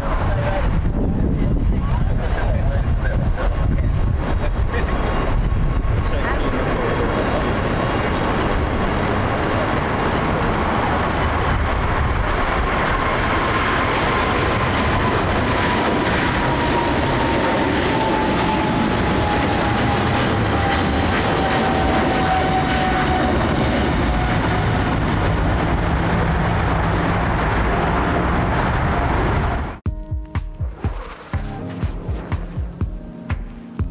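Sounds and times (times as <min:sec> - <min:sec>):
jet engines at takeoff: 0:00.0 - 0:29.8.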